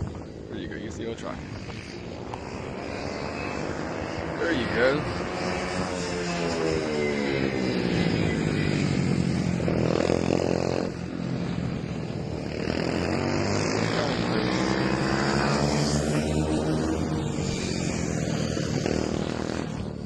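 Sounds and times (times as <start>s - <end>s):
mini motorcycles racing: 0.0s - 20.0s.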